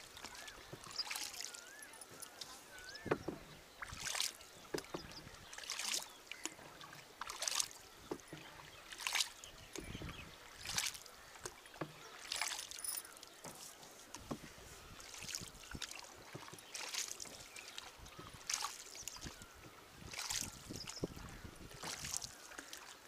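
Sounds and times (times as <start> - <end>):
paddle splashing through water: 0.0 - 23.0.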